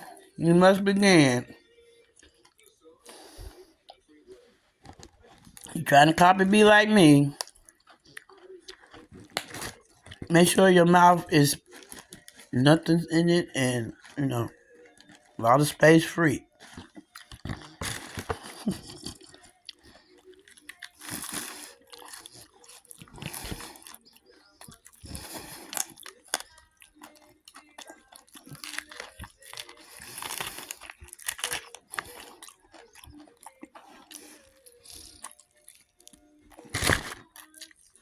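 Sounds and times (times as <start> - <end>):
fried chicken crunching: 4.9 - 12.6, 13.2 - 38.0.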